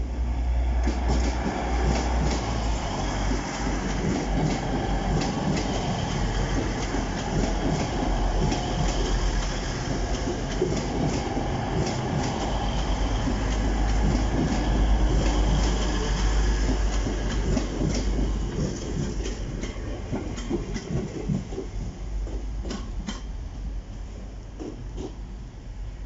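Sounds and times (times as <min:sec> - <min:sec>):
rumble of passing carriages: 0:00.0 - 0:22.6.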